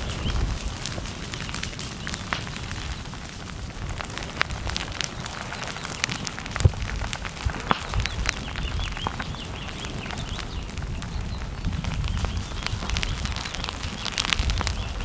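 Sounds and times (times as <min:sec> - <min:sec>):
dry brush crackling as it burns: 0:00.0 - 0:15.0.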